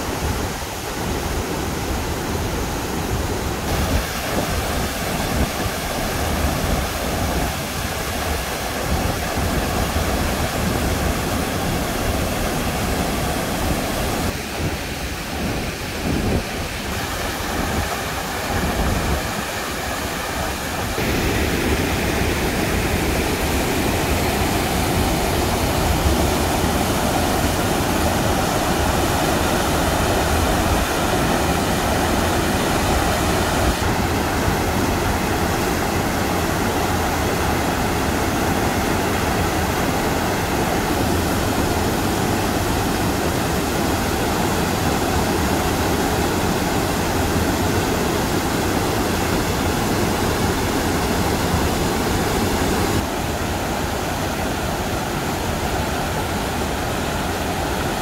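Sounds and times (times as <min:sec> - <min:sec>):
stream cascading into pool: 0:00.0 - 0:58.0.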